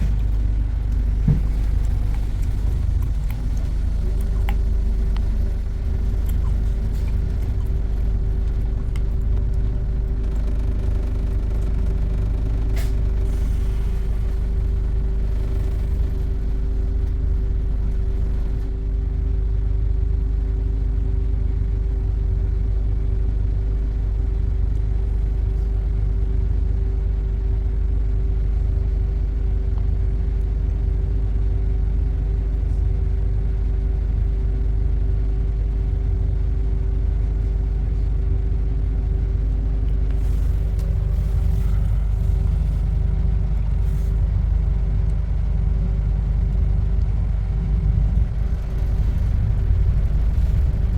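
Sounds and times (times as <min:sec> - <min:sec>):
droning hum: 0:00.0 - 0:50.9
road vehicle rumble: 0:00.0 - 0:50.9.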